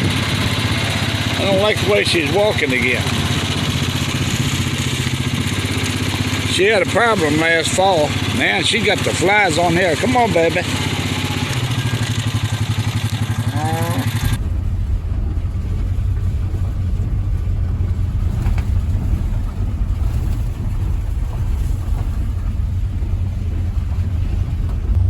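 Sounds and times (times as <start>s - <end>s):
low steady rumble: 0.0s - 25.0s
small engine idling: 0.0s - 25.0s.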